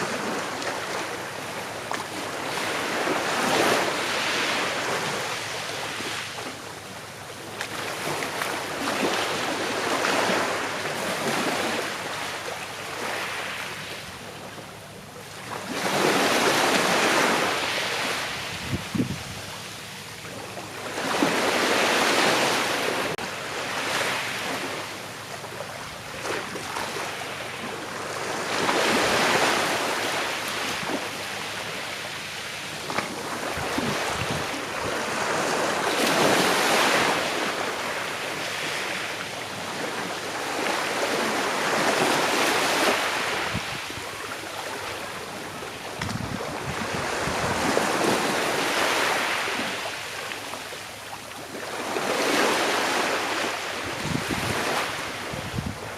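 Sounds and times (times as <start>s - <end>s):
calm sea waves washing ashore: 0.0s - 55.9s.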